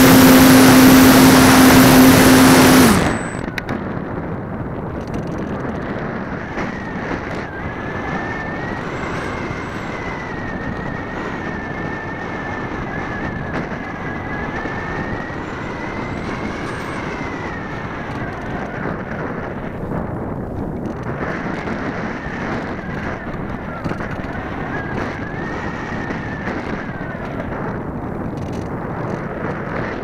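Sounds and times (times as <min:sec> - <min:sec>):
motor and propeller whining: 0:00.0 - 0:04.0, 0:05.0 - 0:30.0.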